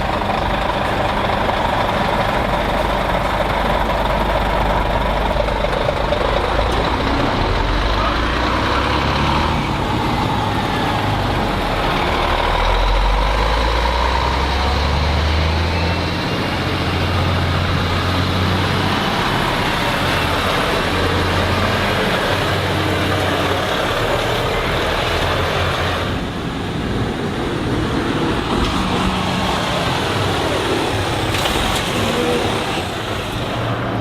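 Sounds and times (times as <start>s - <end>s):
diesel truck engines: 0.0s - 34.0s.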